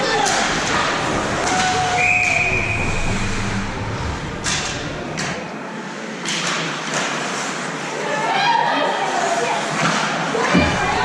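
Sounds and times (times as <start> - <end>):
hiss of skates and crowd: 0.0 - 11.0.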